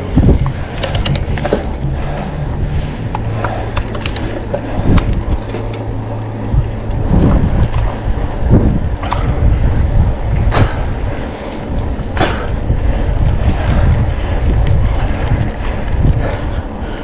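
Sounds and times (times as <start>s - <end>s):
bike clicks and rattles: 0.0s - 17.0s
bike tyre noise: 0.0s - 17.0s
wind buffeting microphone: 0.0s - 17.0s.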